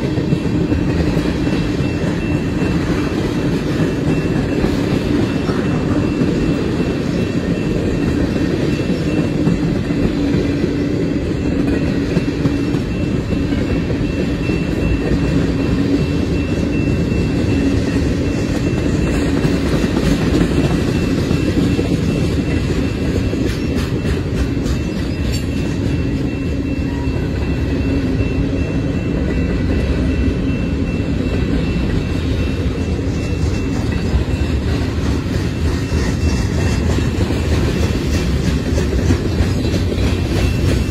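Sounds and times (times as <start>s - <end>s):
clickety-clack of wheels: 0.0s - 40.9s
freight train wheels rumbling: 0.0s - 40.9s.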